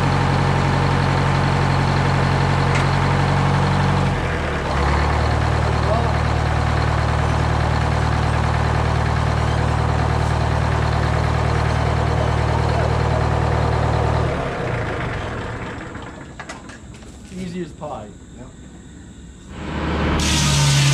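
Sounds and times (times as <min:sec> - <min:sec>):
diesel engine running: 0:00.0 - 0:16.4, 0:19.5 - 0:20.9.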